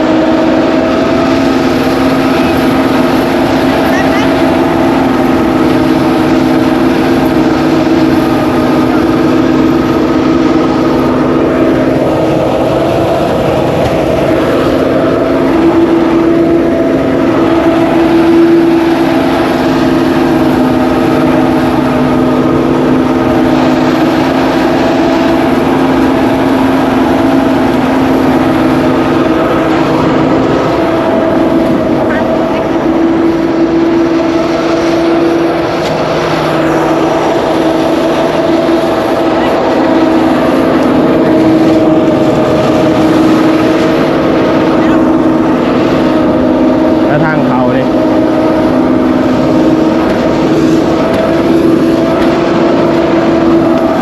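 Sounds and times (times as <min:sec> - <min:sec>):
threshing machine humming: 0:00.0 - 0:54.0.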